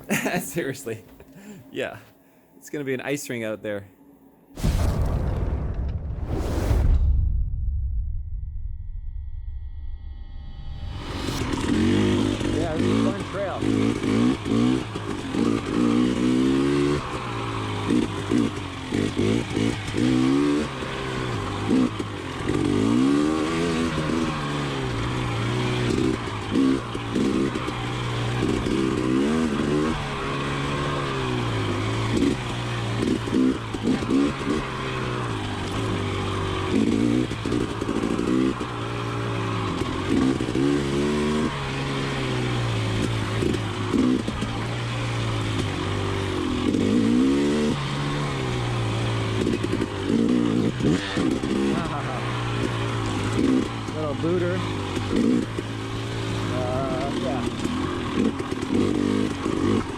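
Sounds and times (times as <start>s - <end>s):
dirt bike engine revving: 10.9s - 59.9s.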